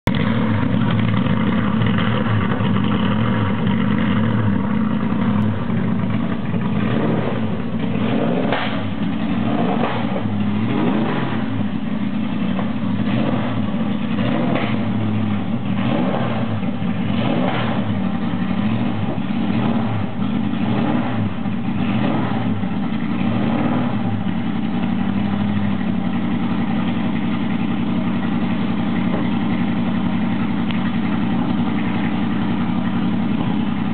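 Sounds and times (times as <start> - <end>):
engine throttle blips: 0.0 - 33.9
race car engine idling: 0.0 - 33.9.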